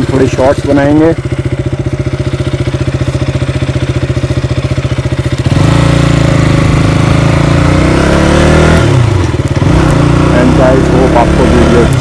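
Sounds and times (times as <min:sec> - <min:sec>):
motorcycle engine idling and accelerating: 0:00.0 - 0:12.0.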